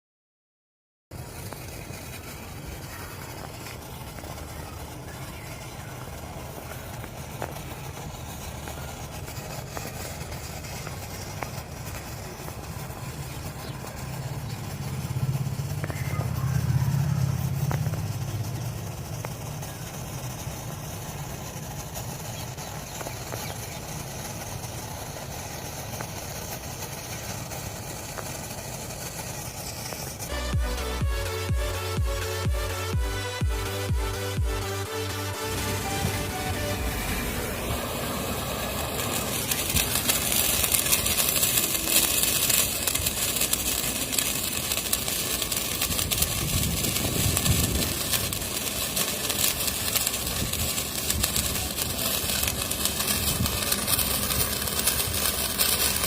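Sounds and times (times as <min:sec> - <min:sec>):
engine rumbling: 0:01.1 - 0:56.0.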